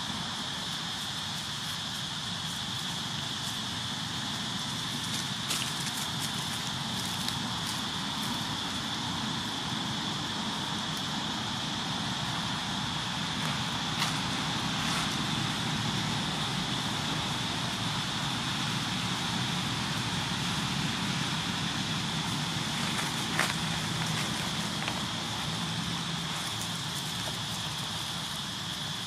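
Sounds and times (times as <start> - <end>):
high-pitched hiss: 0.0 - 29.0.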